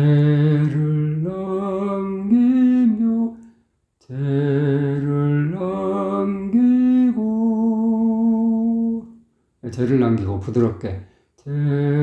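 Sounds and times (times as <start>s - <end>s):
person singing unaccompanied: 0.0s - 9.2s, 11.4s - 12.0s.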